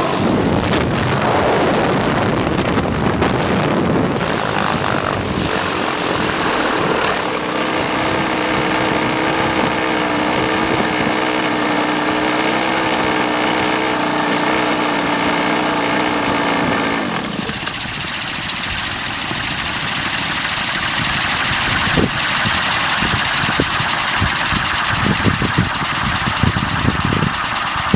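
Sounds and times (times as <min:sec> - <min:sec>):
model helicopter engine and rotors: 0:00.0 - 0:27.9
rushing noise: 0:00.0 - 0:27.9.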